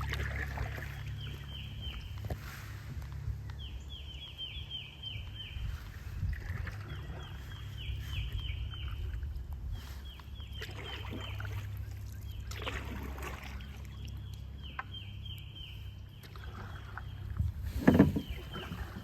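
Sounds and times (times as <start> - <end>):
low rumble of moving canoe: 0.0 - 19.0.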